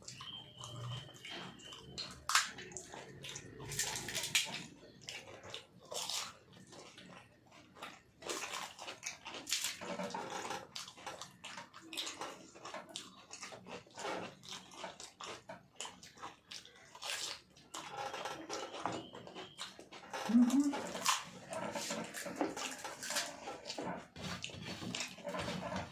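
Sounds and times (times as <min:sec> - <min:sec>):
wet chewing and slurping: 0:00.0 - 0:25.9.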